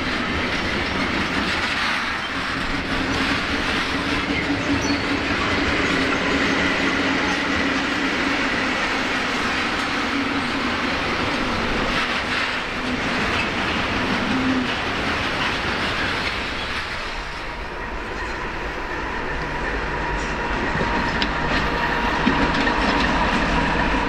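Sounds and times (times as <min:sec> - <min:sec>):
wheels clacking over rail joints: 0:00.0 - 0:24.0.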